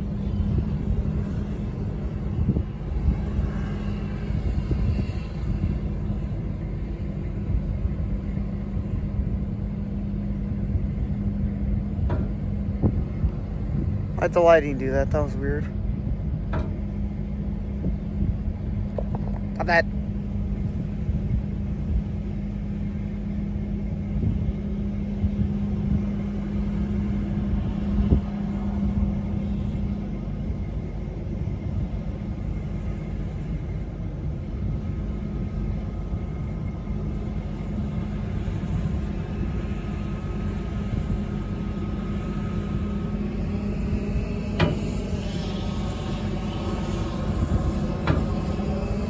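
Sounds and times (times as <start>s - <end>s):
combine harvester rumble: 0.0s - 49.0s
faint high whine: 0.0s - 49.0s.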